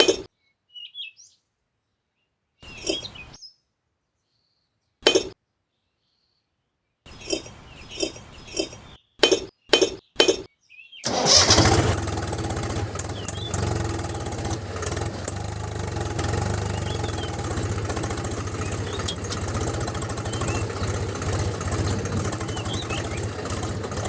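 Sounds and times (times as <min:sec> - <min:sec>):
birds chirping faintly: 0:02.6 - 0:24.0.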